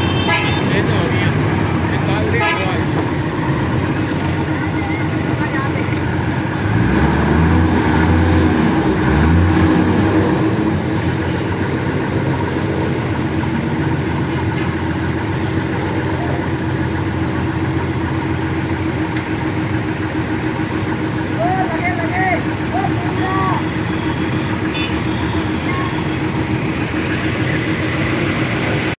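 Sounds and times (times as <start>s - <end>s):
combine harvester engine idling: 0.0s - 28.9s.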